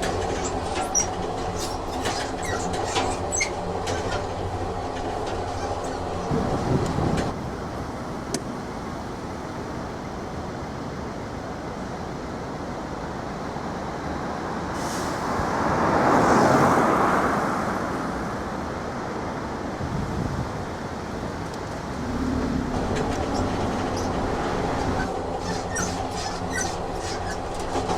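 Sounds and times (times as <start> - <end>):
train rumbling: 0.0 - 27.9.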